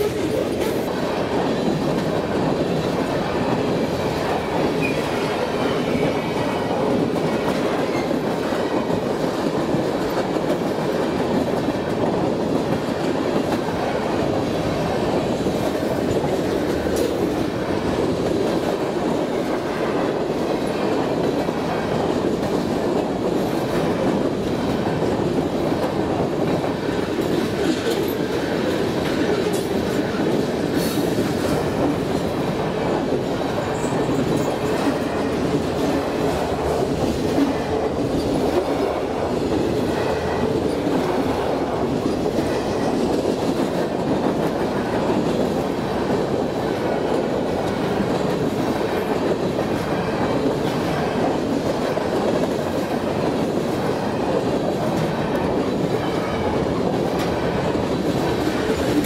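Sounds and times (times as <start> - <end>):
train wheels rumbling on track: 0.0 - 59.0
wheels clacking over rail joints: 0.0 - 59.0.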